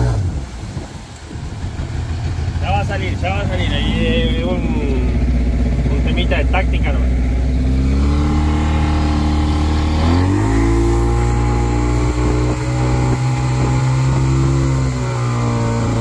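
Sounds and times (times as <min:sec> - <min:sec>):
outboard motor revving: 0:00.0 - 0:16.0.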